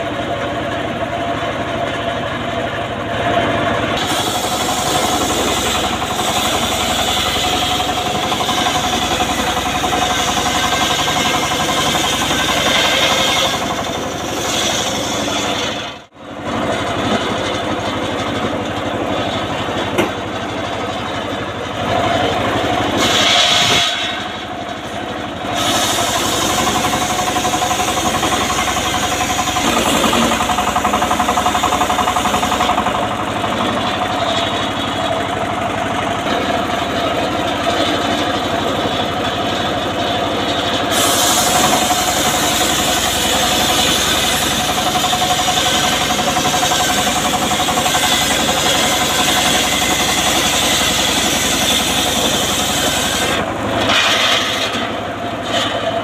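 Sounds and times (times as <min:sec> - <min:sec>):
engine running: 0:00.0 - 0:56.0
saw blade whine: 0:00.0 - 0:56.0.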